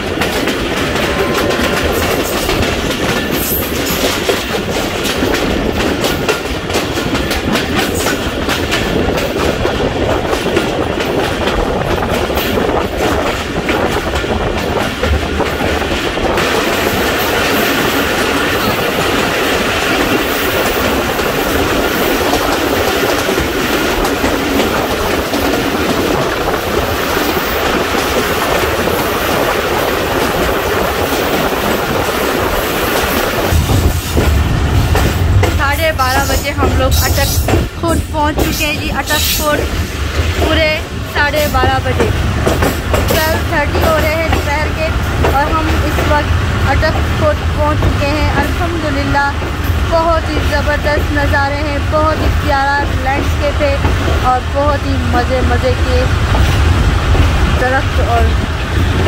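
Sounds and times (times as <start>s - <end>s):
train rumbling: 0.0s - 59.0s
wheels clacking over rail joints: 0.0s - 59.0s.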